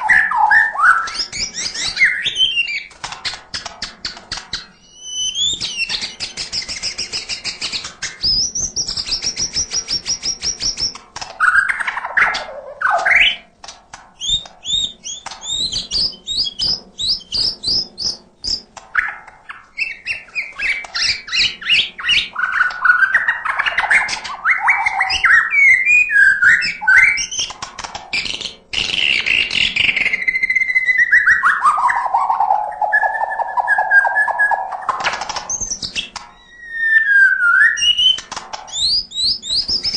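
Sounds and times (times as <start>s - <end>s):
bird singing varied song: 0.0s - 3.0s, 4.5s - 13.5s, 14.2s - 27.6s, 28.2s - 39.9s.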